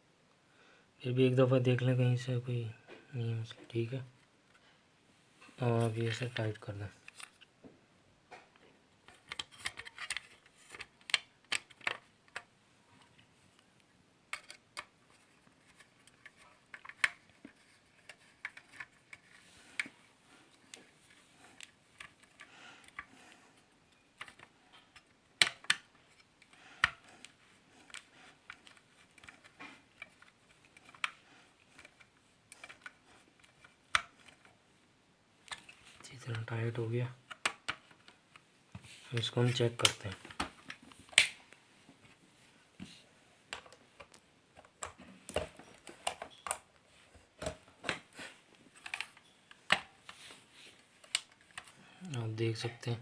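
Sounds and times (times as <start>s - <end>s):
plastic parts being handled: 5.5s - 7.5s, 8.4s - 13.2s, 14.3s - 34.6s, 35.4s - 42.2s, 42.8s - 53.0s.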